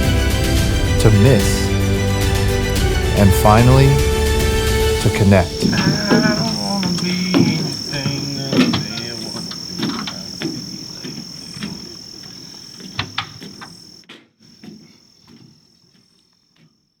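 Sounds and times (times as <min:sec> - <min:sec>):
night insects trilling: 0:00.0 - 0:16.1.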